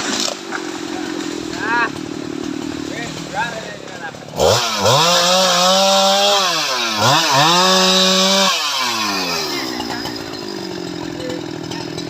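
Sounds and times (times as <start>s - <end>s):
chainsaw revving then idling: 0.0s - 12.0s.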